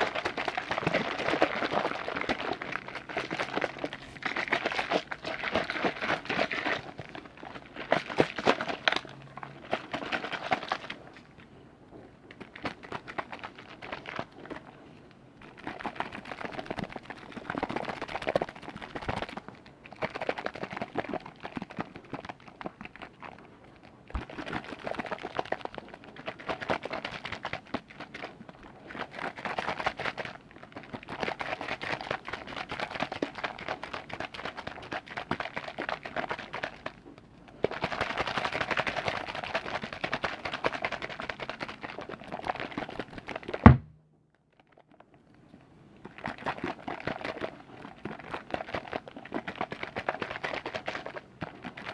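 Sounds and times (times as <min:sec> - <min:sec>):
liquid bubbling in a container: 0:00.0 - 0:44.0, 0:44.9 - 0:51.9.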